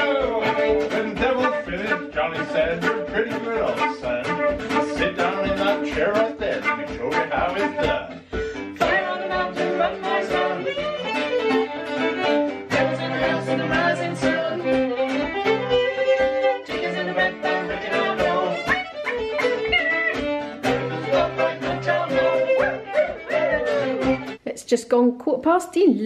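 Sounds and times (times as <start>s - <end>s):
music with steady beat: 0.0s - 24.4s.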